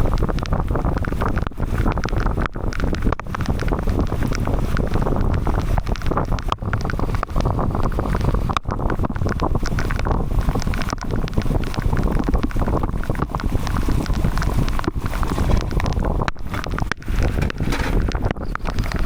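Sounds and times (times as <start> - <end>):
heavy wind and rain: 0.0 - 19.0
irregular crackles: 0.0 - 19.0
wind buffeting microphone: 0.0 - 19.0.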